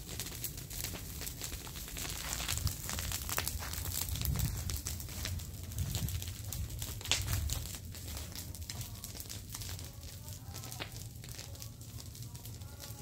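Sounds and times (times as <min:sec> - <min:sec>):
low steady rumble: 0:00.0 - 0:12.8
dry grass and leaves crackling: 0:00.0 - 0:13.0.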